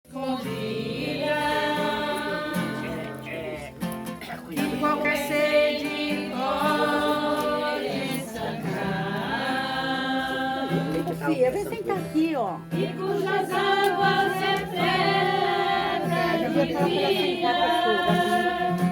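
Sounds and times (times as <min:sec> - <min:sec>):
person singing a hymn: 0:00.1 - 0:03.7, 0:04.6 - 0:11.3, 0:12.7 - 0:18.9
acoustic guitar chords: 0:00.1 - 0:18.9.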